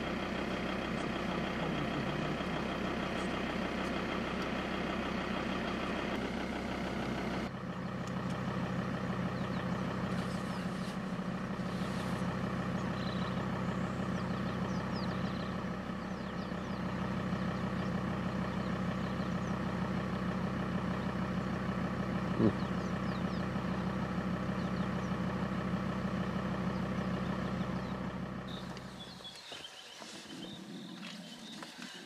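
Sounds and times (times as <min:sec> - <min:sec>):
birds chirping: 0:00.0 - 0:32.0
vehicle engine idling: 0:00.0 - 0:32.0.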